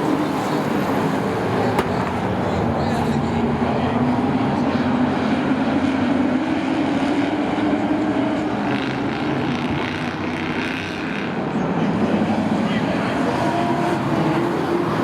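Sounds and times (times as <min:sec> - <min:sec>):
racing truck engines droning: 0:00.0 - 0:15.0.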